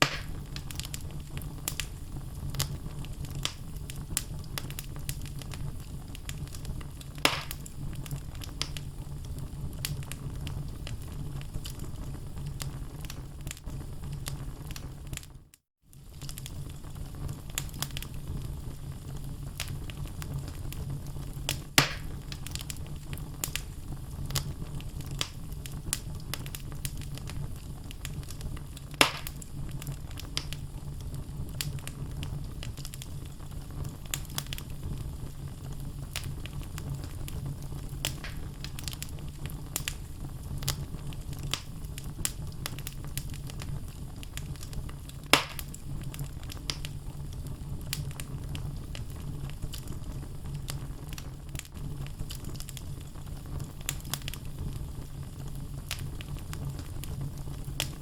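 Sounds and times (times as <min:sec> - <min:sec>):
fire crackling: 0:00.0 - 0:58.0
flame rumbling: 0:00.0 - 0:58.0
loud fire pops: 0:00.0 - 0:58.0.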